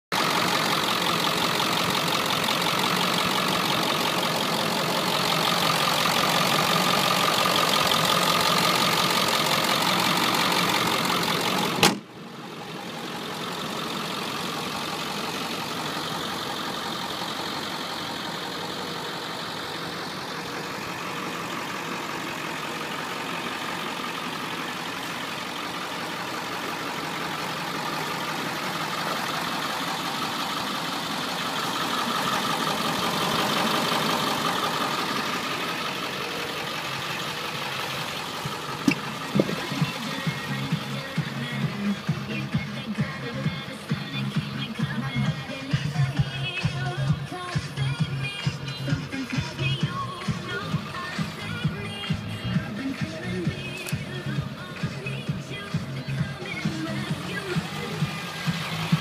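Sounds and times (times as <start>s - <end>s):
diesel engine idling: 0.1s - 59.0s.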